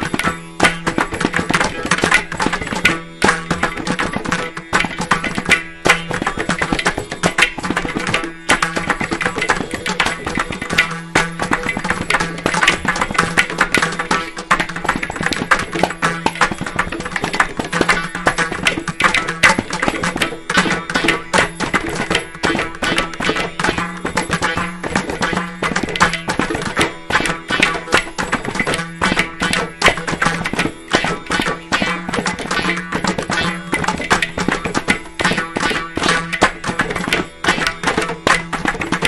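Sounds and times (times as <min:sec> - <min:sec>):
hand drums playing dense strokes: 0:00.0 - 0:39.0.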